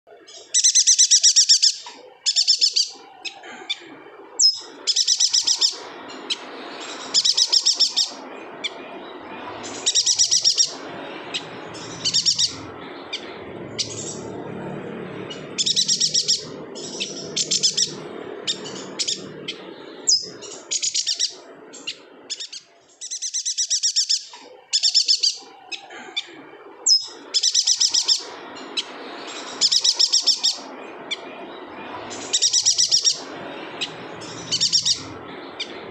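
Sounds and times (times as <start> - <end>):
bird chattering song: 0.2 - 35.9.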